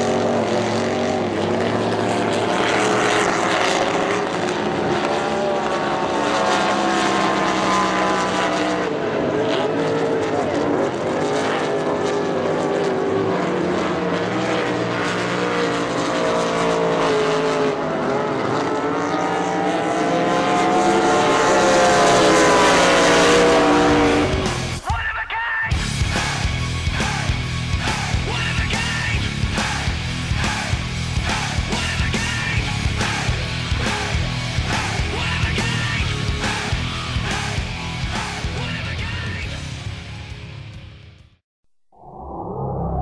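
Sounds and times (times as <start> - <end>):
race boat engine at high revs: 0.0 - 24.8, 25.8 - 39.4.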